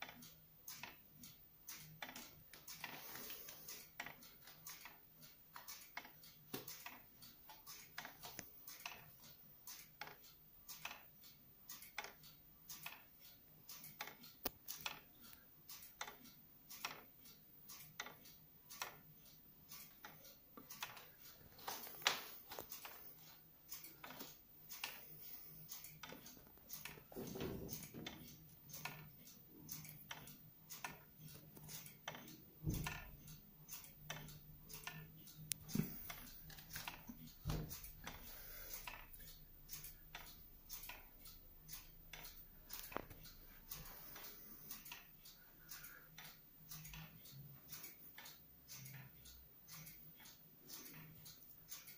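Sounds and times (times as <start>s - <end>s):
wall clock ticking: 0.0s - 51.9s.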